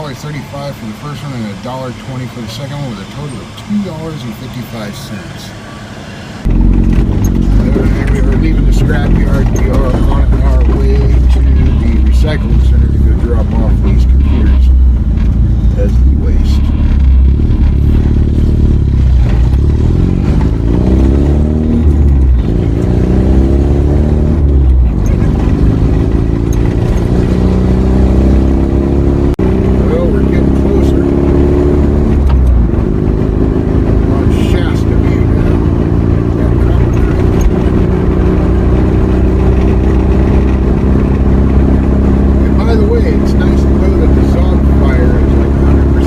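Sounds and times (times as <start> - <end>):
vehicle engine accelerating: 0.0 - 46.0.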